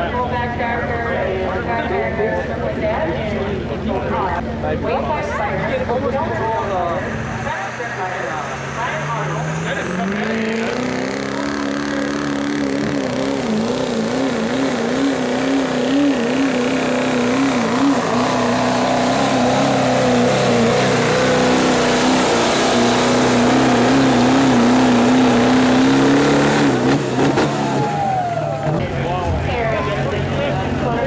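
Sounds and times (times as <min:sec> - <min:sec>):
diesel engine at high revs: 0:00.0 - 0:31.0.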